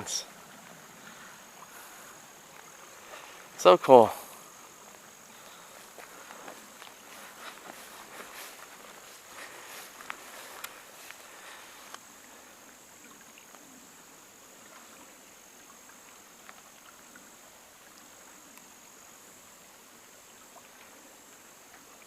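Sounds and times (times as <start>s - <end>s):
stream running water: 0.0s - 22.0s.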